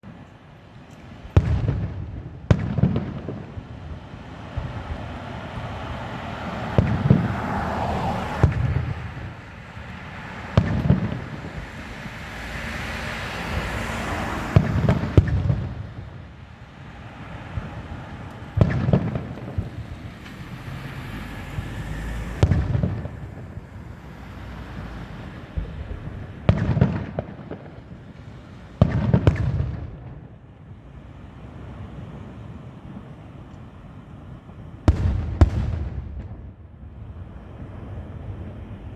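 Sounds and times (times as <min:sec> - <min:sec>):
crackling hiss: 0:00.1 - 0:35.8
firework shells booming: 0:00.9 - 0:20.7, 0:21.5 - 0:30.8, 0:34.8 - 0:38.9.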